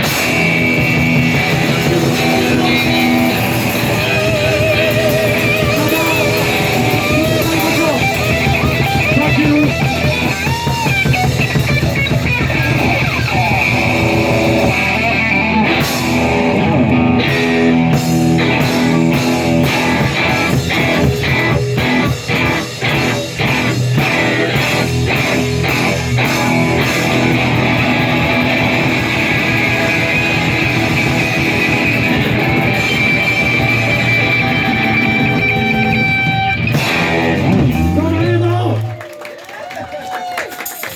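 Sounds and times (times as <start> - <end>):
drum kit: 0.0 - 39.0
bass guitar: 0.0 - 39.1
electric guitar: 0.0 - 40.9.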